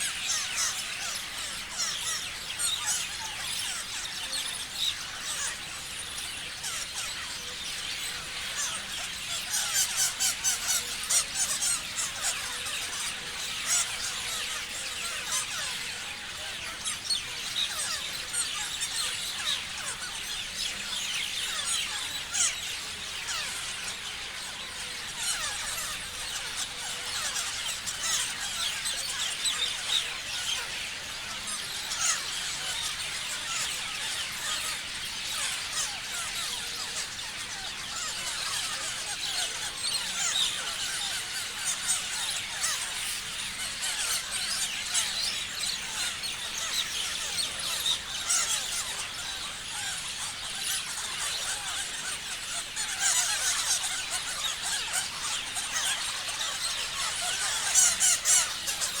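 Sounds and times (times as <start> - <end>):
parrots chirping and screeching: 0.0 - 59.0.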